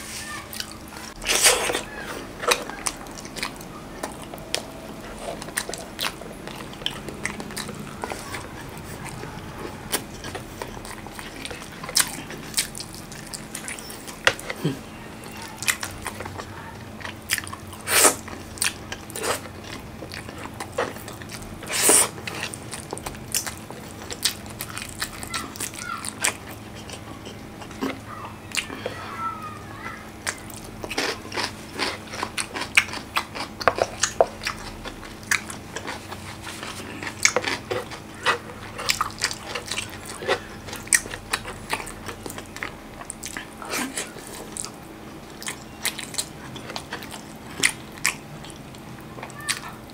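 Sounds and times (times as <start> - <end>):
chewing with wet mouth clicks: 0.5 - 29.0, 30.1 - 49.9.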